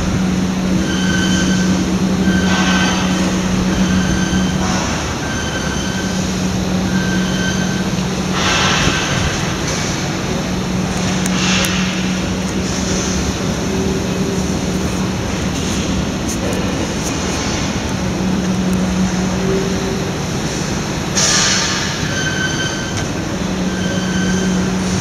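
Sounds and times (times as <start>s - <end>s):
machine humming and rattling: 0.0s - 25.0s.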